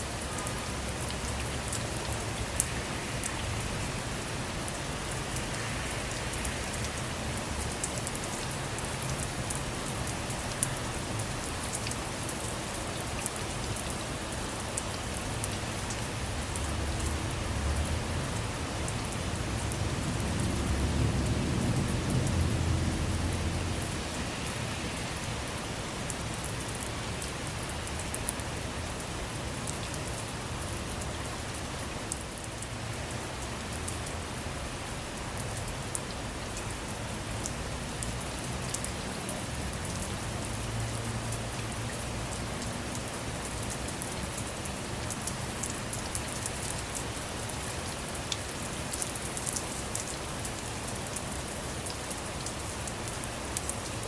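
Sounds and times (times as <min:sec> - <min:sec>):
rain falling on a car: 0:00.0 - 0:54.0.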